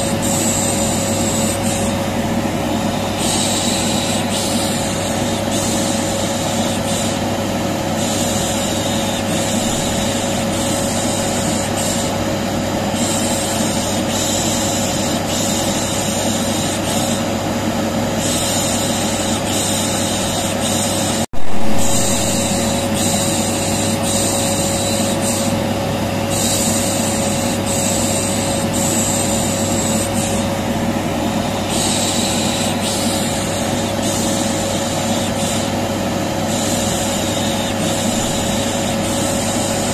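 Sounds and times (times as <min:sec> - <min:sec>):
vacuum cleaner motor humming: 0:00.0 - 0:39.9.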